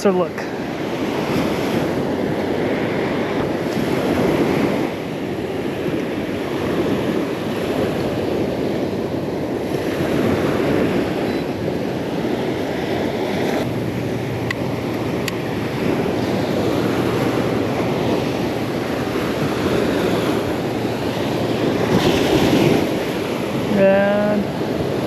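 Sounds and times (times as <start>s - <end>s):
surf washing on beach: 0.0s - 25.0s
wind buffeting microphone: 0.0s - 25.0s.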